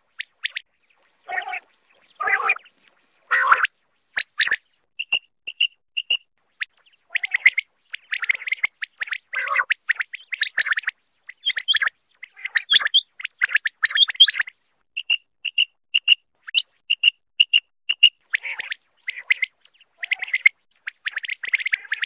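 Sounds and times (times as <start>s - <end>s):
quail calling: 0.0s - 22.0s
quail rapid chirping: 0.0s - 22.0s.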